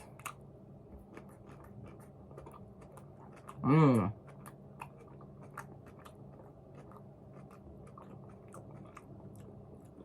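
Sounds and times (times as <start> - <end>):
person chewing crunchy salad: 0.0 - 10.0.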